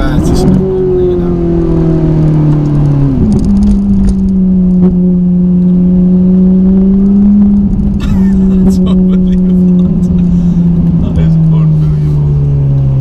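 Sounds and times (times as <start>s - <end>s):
sports car engine on road: 0.0s - 13.0s.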